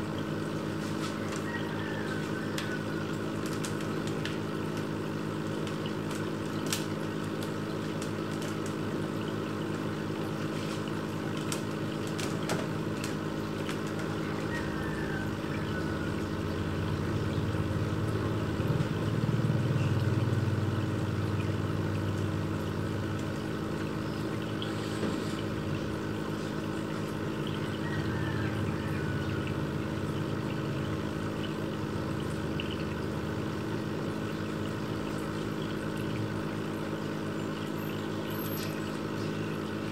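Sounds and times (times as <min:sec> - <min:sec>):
filter pump humming: 0:00.0 - 0:39.9
water trickling: 0:00.0 - 0:39.9.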